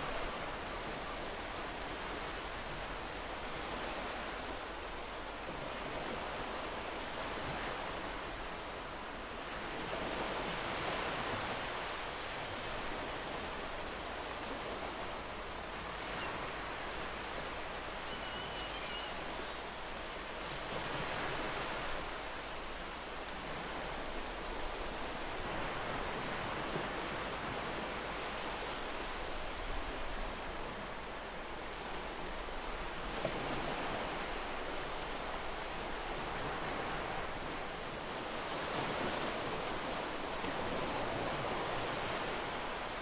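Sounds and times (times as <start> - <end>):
ocean waves breaking on beach: 0.0 - 43.0.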